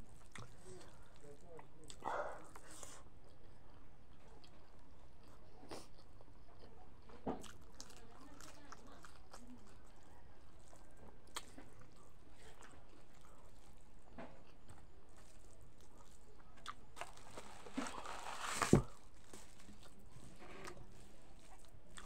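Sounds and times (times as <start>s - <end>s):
person chewing: 0.1s - 22.0s.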